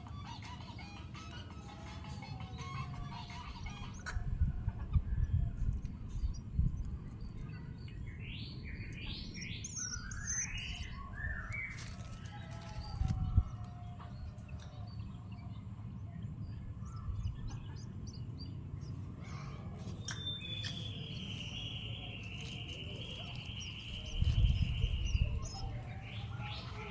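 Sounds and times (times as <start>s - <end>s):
bird chick chirping: 2.4s - 26.9s.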